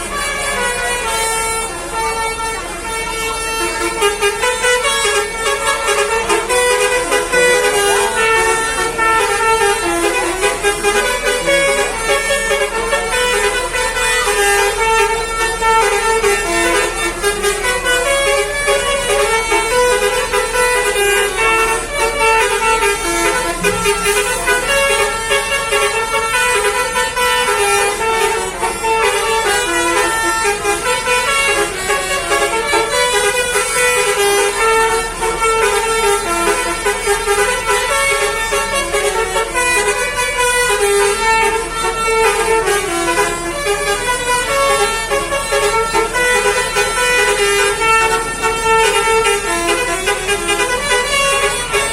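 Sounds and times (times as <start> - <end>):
musical air horn melody: 0.0 - 51.9.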